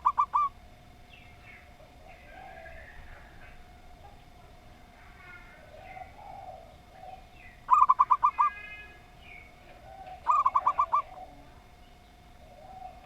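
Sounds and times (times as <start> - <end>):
dove staccato cooing: 0.0 - 0.6, 1.4 - 11.5, 12.3 - 13.0
soft low drawn-out coos: 1.6 - 13.0.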